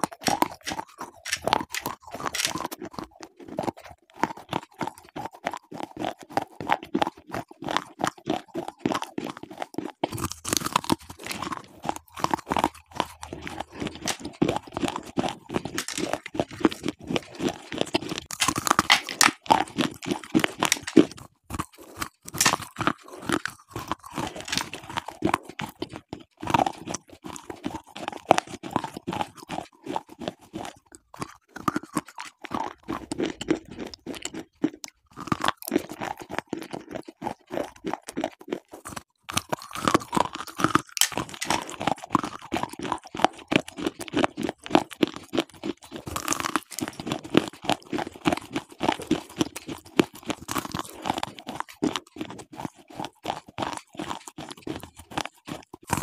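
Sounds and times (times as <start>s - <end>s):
crisp chewing crunches: 0.0s - 56.0s.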